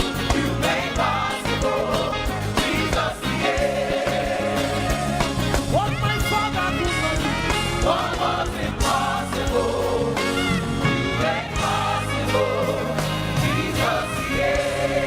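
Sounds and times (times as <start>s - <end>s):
voices singing together: 0.0s - 5.9s, 6.6s - 15.0s
band playing gospel music: 0.0s - 15.0s
steady drumbeat: 0.0s - 15.0s.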